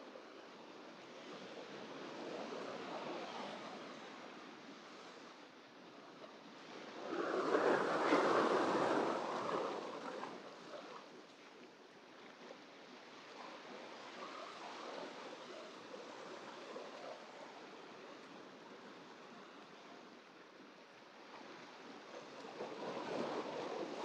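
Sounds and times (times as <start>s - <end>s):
small waves washing on shore: 0.1s - 24.0s.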